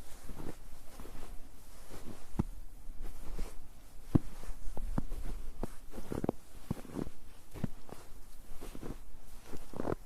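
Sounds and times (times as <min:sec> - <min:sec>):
footsteps on snow: 0:00.0 - 0:10.0.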